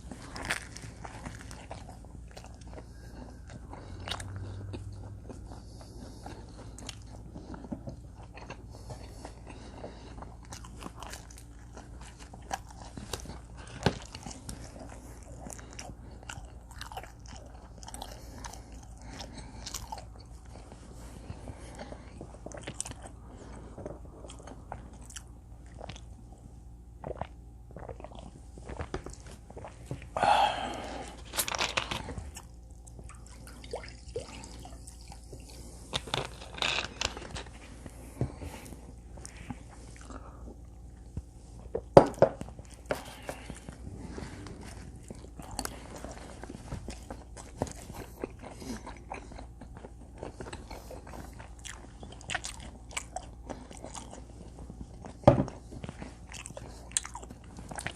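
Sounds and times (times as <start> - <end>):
chewing and biting pizza: 0.0 - 57.9.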